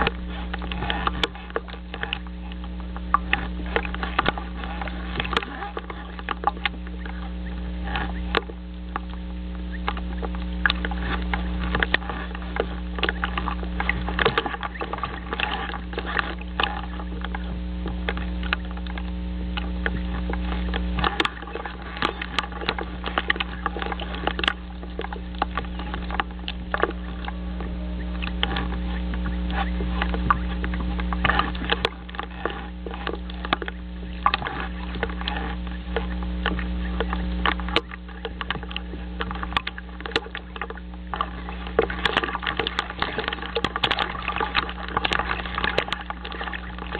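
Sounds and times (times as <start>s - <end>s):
crackling and clicking: 0.0s - 46.9s
electrical hum: 0.0s - 46.9s.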